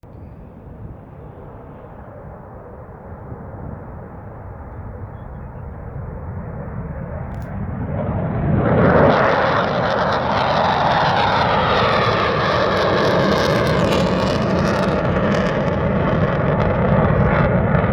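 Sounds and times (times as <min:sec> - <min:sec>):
jet engines roaring on takeoff: 0:00.0 - 0:17.9.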